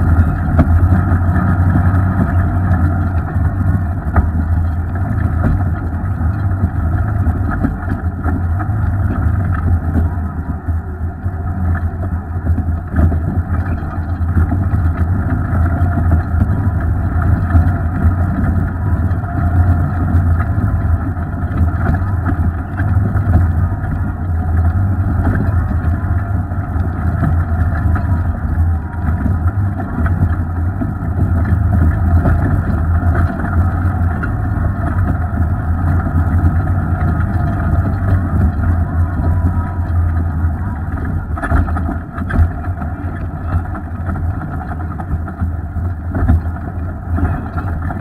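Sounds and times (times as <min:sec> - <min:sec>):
vehicle engine droning: 0:00.0 - 0:48.0.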